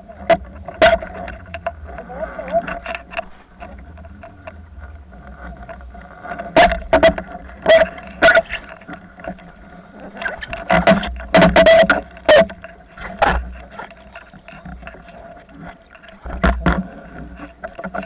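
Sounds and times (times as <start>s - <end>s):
boat engine hum underwater: 0.0s - 18.0s.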